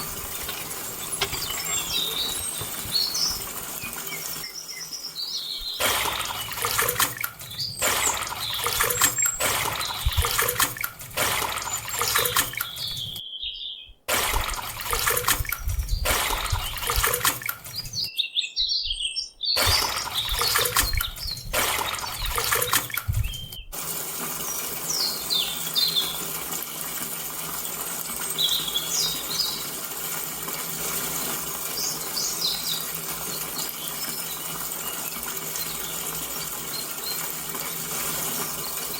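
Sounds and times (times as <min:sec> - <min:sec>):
running water: 0:00.0 - 0:13.2, 0:14.1 - 0:18.1, 0:19.6 - 0:38.9
birds chirping: 0:00.0 - 0:23.8, 0:24.4 - 0:26.6, 0:28.1 - 0:38.9.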